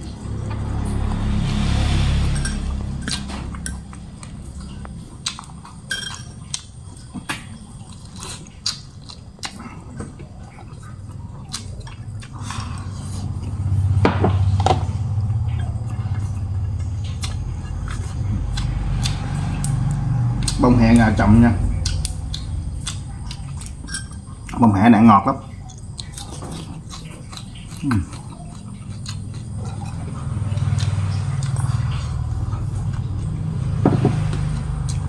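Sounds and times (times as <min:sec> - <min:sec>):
person chewing: 0:00.0 - 0:24.7, 0:25.5 - 0:35.0
low hum: 0:00.0 - 0:35.0.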